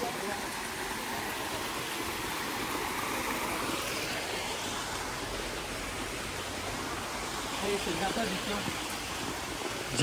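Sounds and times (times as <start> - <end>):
rushing outdoor noise: 0.0 - 10.0.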